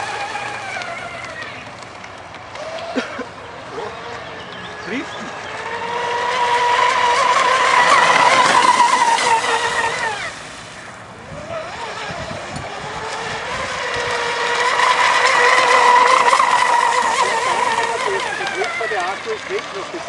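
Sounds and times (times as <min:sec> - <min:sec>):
electric motor high whine: 0:00.0 - 0:20.0.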